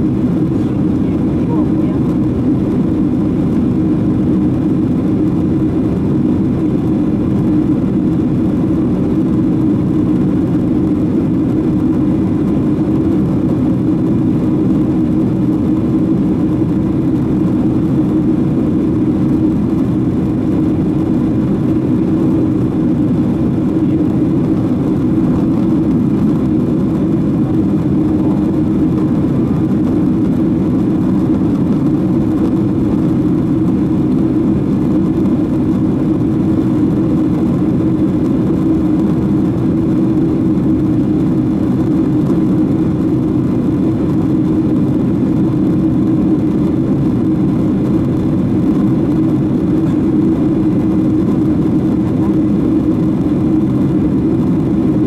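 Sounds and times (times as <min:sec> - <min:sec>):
faint hum: 0:00.0 - 0:55.0
jet engine and airflow rumble: 0:00.0 - 0:55.0.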